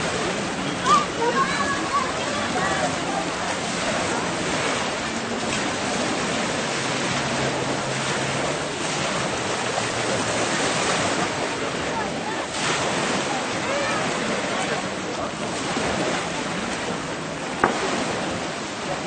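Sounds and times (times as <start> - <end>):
distant voices: 0.0 - 19.0
ocean surf washing ashore: 0.0 - 19.0.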